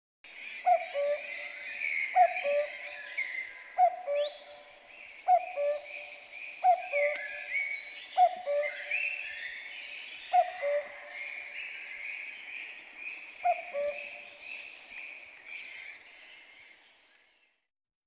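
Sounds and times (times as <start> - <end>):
songbirds warbling: 0.3 - 17.1.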